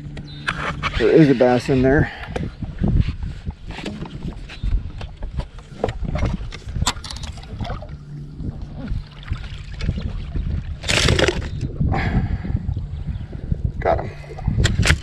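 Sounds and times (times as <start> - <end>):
low steady hum: 0.0 - 15.0
low wind rumble: 0.0 - 15.0.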